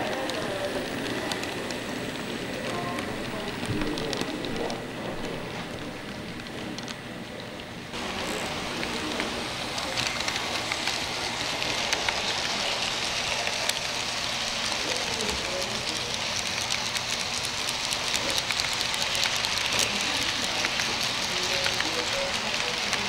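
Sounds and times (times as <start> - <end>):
wheels clicking on track: 0.0 - 6.9, 7.9 - 23.0
model train wheels on rails: 0.0 - 23.0.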